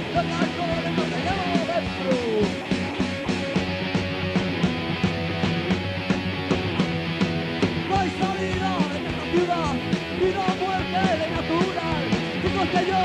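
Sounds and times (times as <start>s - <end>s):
bending guitar melody: 0.0s - 13.0s
live punk rock band: 0.0s - 13.0s.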